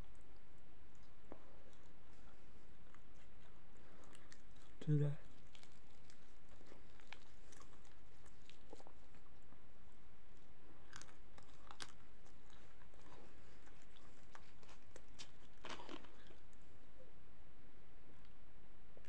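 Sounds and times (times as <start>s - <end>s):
chewing and biting food: 0.0s - 16.6s.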